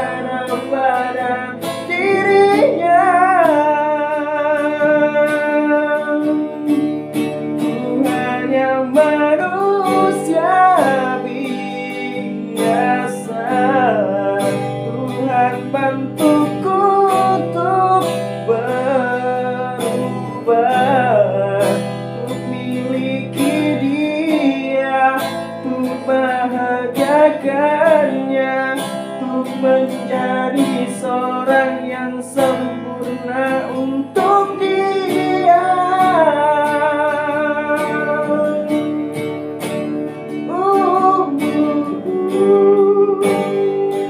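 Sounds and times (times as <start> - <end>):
man singing high ballad: 0.0 - 39.1, 40.3 - 44.0
acoustic guitar strumming: 0.0 - 44.0.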